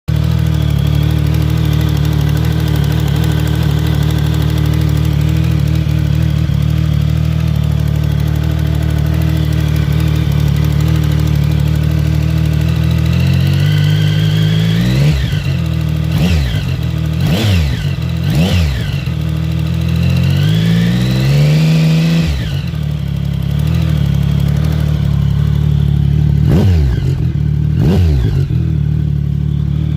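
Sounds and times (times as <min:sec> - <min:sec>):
motorcycle engine idling and revving: 0:00.0 - 0:29.9
exhaust ticking: 0:00.1 - 0:29.9.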